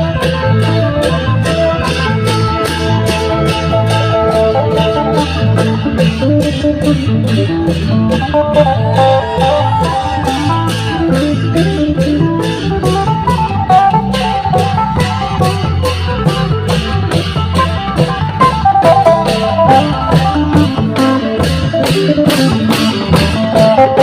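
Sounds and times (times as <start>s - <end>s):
deep drum beats: 0.0s - 24.0s
plucked string melody: 0.0s - 24.0s.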